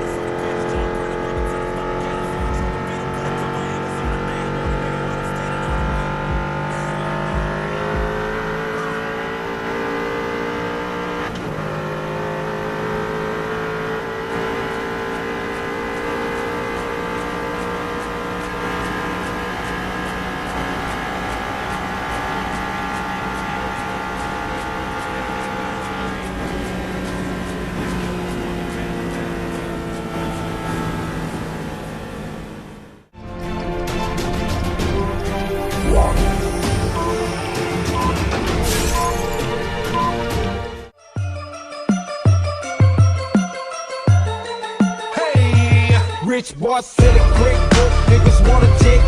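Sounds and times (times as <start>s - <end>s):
car engine pulling hard: 0.0s - 33.2s, 33.9s - 40.9s.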